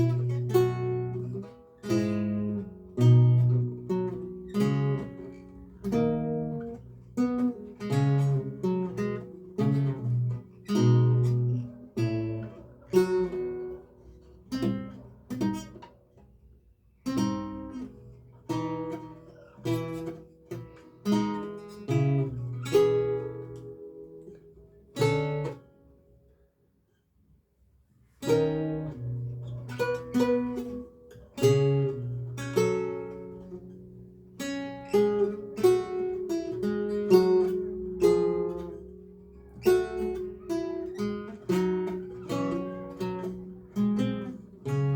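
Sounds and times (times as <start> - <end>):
solo lute playing: 0.0 - 16.4, 17.0 - 26.0, 28.0 - 44.9.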